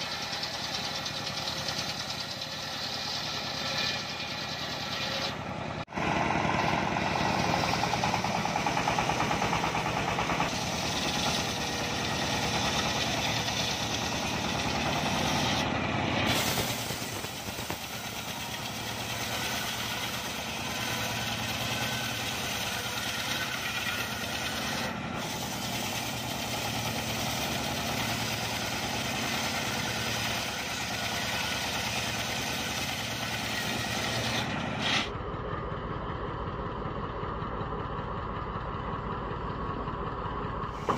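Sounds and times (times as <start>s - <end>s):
saw blade cutting wood: 0.0s - 35.2s
diesel engine chugging: 0.0s - 40.9s.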